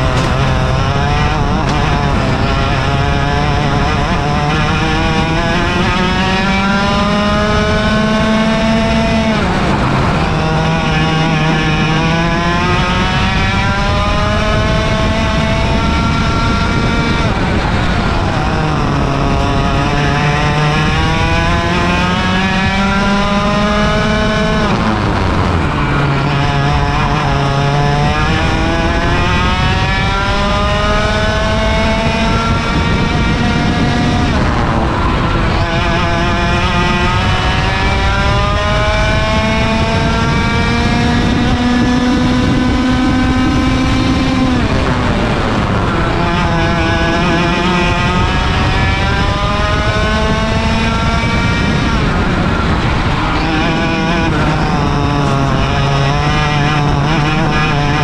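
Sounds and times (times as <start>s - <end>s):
two-stroke kart engine racing: 0.0s - 58.0s.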